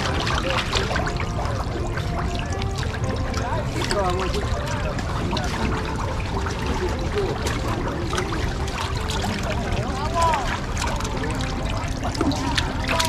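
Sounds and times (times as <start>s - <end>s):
people talking faintly: 0.0s - 13.0s
water trickling and splashing: 0.0s - 13.0s.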